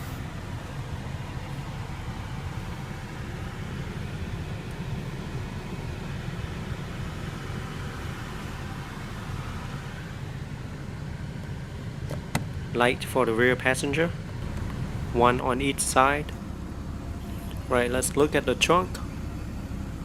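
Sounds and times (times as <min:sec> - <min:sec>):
car cabin low rumble: 0:00.0 - 0:20.0.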